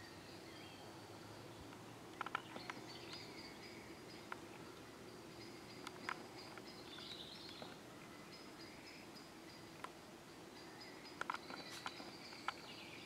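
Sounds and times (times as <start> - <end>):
chirp-like notes: 0.0 - 13.0.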